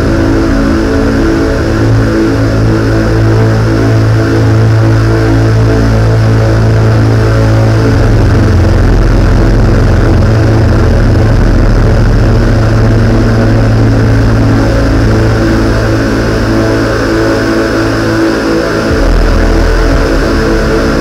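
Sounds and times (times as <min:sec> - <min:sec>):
electronic synthesizer music: 0:00.0 - 0:21.0.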